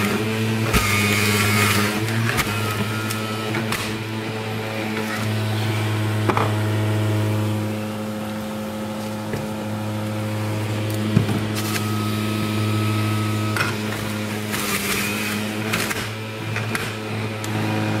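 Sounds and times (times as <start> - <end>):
juicer motor hum: 0.0 - 18.0
juicer shredding produce: 0.0 - 18.0.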